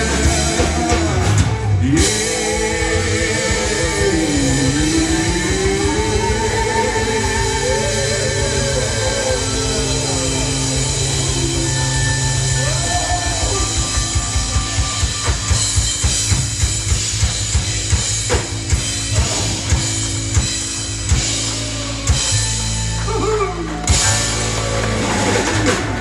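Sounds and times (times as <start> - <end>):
drum kit beat: 0.0 - 26.0
live band playing: 0.0 - 26.0.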